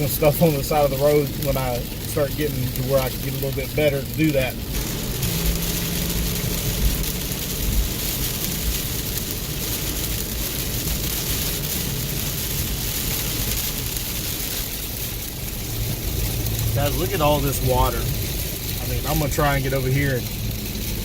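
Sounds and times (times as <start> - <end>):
heavy rain hissing: 0.0 - 21.0
low vehicle rumble: 0.0 - 21.0.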